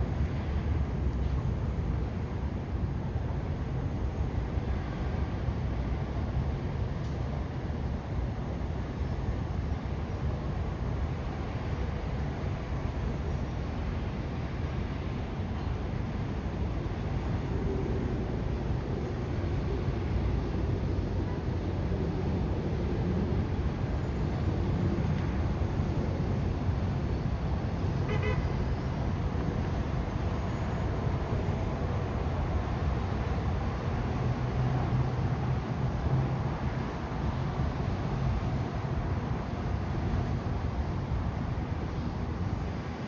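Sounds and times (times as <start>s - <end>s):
city traffic rumble: 0.0s - 43.0s.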